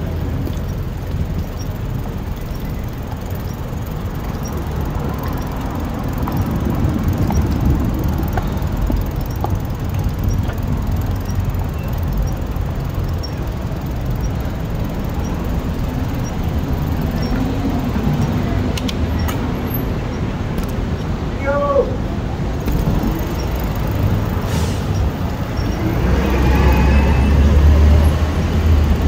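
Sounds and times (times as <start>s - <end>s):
bicycle tyre and wind noise: 0.0s - 21.4s, 22.5s - 29.0s
street traffic: 0.0s - 29.0s.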